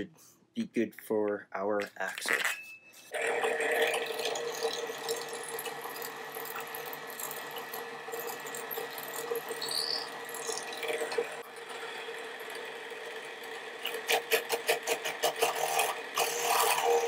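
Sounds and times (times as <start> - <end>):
drill bit whine: 3.1 - 17.0
drill press motor hum: 3.1 - 17.0.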